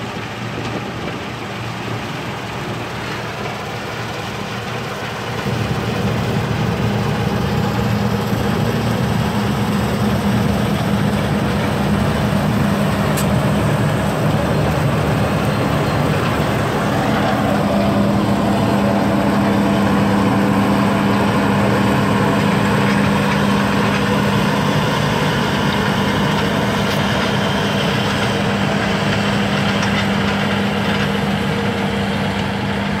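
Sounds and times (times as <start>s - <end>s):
combine harvester engine and threshing: 0.0s - 33.0s.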